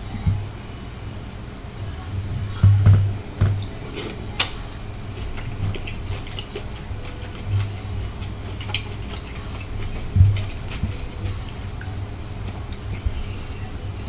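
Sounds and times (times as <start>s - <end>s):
soft chewing thuds: 1.8s - 14.0s.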